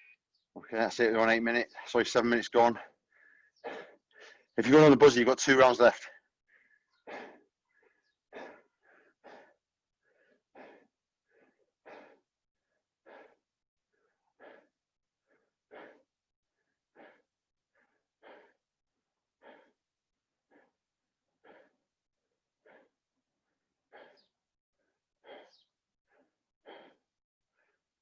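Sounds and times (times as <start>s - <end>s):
person breathing hard: 2.8s - 4.6s, 6.1s - 28.0s.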